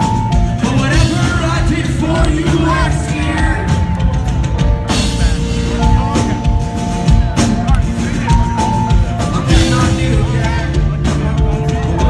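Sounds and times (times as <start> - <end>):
person singing: 0.0 - 12.0
rock band playing live: 0.0 - 12.0.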